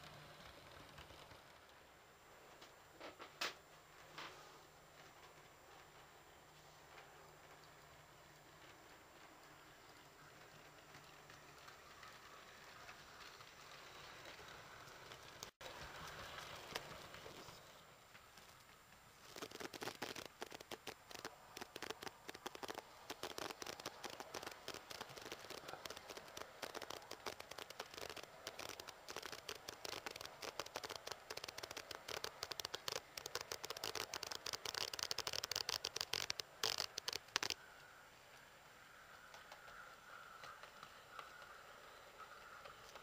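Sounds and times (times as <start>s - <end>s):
model train wheels clattering: 0.0s - 43.0s.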